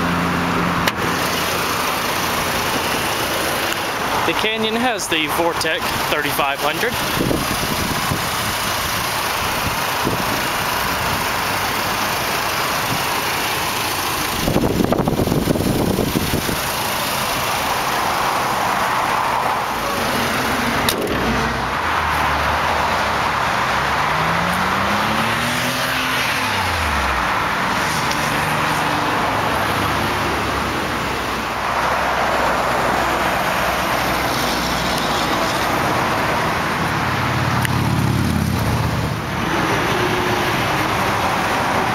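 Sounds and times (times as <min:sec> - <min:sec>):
highway traffic road noise: 0:00.0 - 0:41.9
passing vehicle engine: 0:00.0 - 0:41.9.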